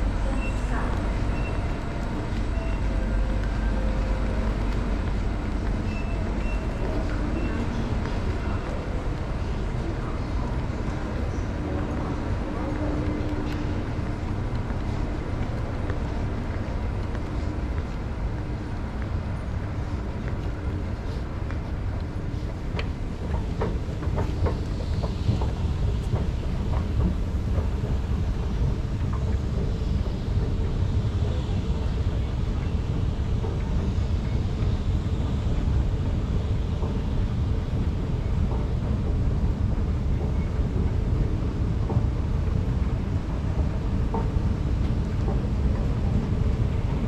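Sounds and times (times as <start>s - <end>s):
station and escalator rumble: 0.0s - 47.0s.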